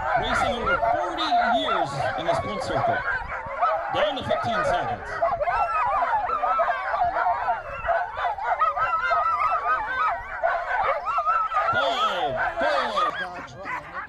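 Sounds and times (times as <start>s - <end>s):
sled dogs yelping and barking: 0.0s - 14.0s.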